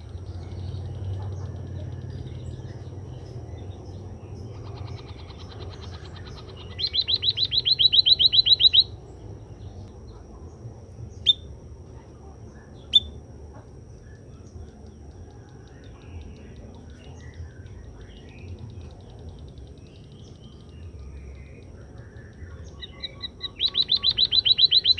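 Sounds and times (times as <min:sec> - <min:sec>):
bird high chirps: 0:00.0 - 0:10.3, 0:11.0 - 0:11.6, 0:12.6 - 0:13.2, 0:14.0 - 0:24.9.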